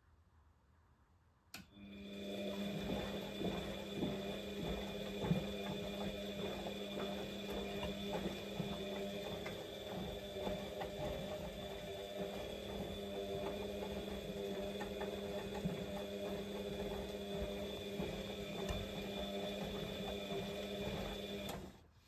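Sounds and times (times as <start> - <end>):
washing machine motor hum: 1.6 - 22.0.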